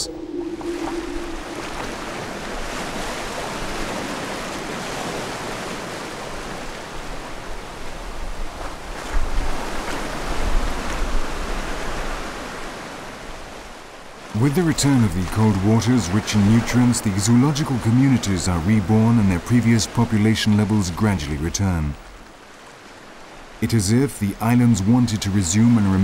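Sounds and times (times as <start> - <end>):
ocean surf breaking on shore: 0.0 - 26.0.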